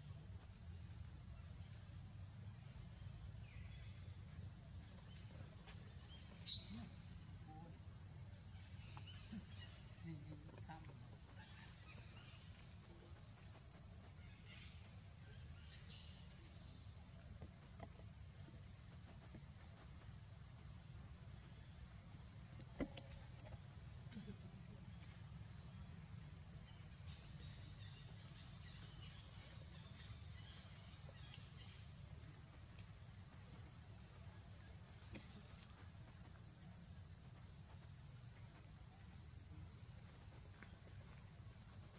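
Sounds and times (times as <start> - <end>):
high insect drone: 0.0 - 41.9
pulsing insect trill: 0.0 - 41.9.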